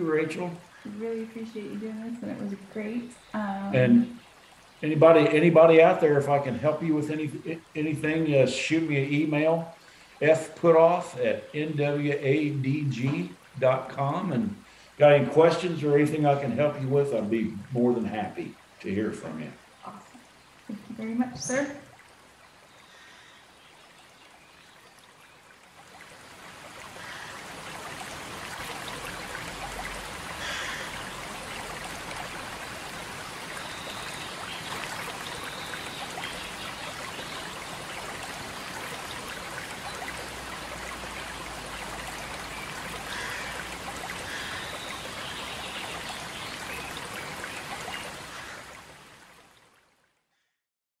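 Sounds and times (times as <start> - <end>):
flowing stream rushing: 0.0 - 2.8, 3.7 - 49.8.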